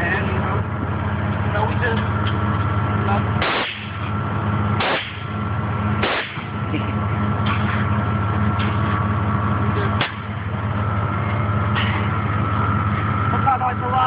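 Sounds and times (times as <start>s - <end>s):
steady low drone: 0.0s - 14.0s
thin steady whine: 0.0s - 14.0s.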